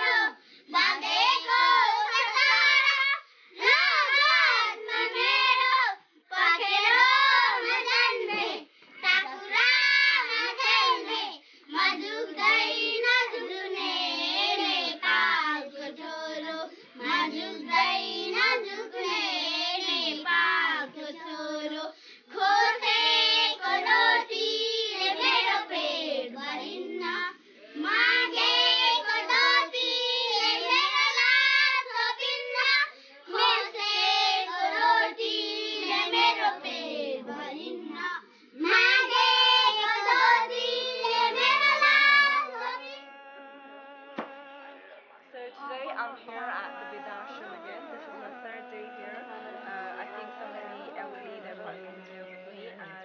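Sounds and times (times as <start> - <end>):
girls singing unaccompanied: 0.0 - 53.0.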